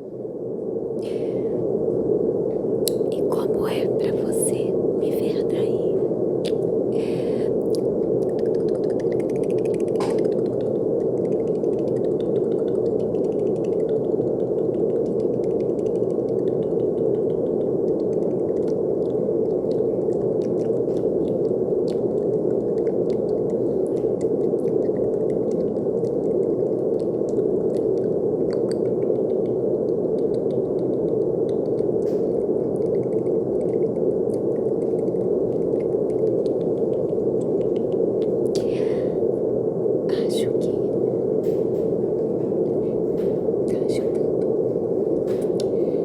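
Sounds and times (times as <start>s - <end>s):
low muffled rushing hiss: 0.0s - 46.0s.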